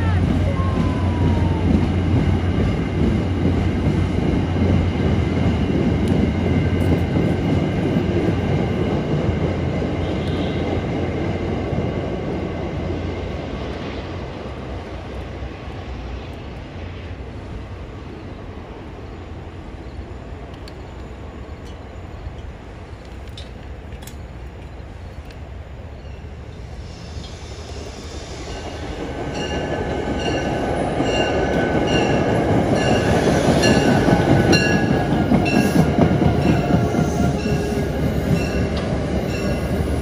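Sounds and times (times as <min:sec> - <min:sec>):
train coaches rolling past: 0:00.0 - 0:40.0.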